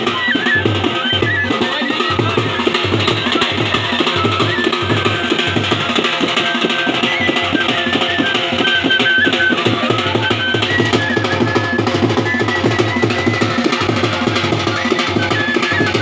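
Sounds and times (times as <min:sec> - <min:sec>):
dhol drumming fast beat: 0:00.0 - 0:16.0
high melody of held notes: 0:00.0 - 0:16.0.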